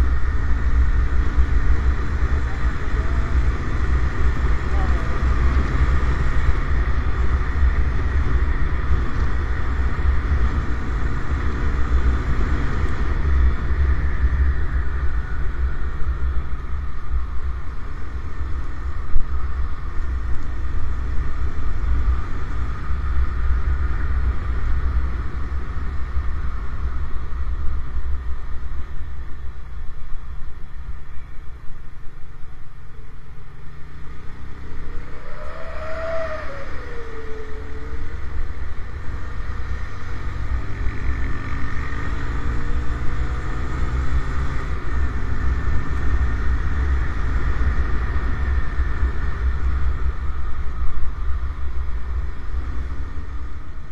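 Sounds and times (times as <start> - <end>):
road noise: 0.0 - 53.9
wind rumble: 0.0 - 53.9.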